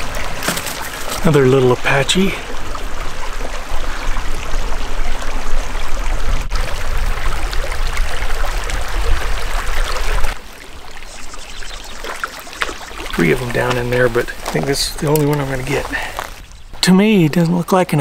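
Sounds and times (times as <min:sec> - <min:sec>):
creek running over stones: 0:00.0 - 0:18.0.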